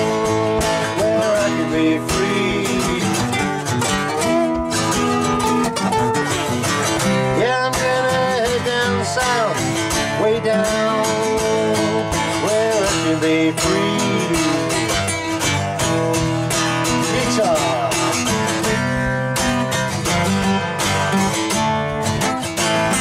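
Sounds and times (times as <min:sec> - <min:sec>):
man singing: 0:00.0 - 0:20.6
acoustic guitars strumming: 0:00.0 - 0:23.0.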